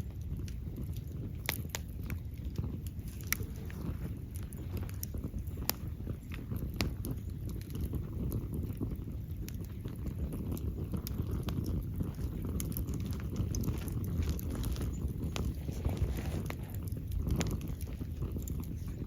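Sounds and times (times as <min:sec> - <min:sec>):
burning wood crackles and pops: 0:00.0 - 0:19.0
wood fire roaring: 0:00.0 - 0:19.0.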